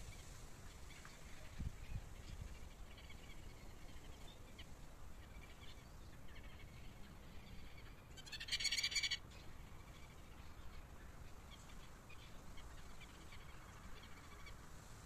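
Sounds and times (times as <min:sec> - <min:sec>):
wild birds calling faintly: 0:00.0 - 0:15.0.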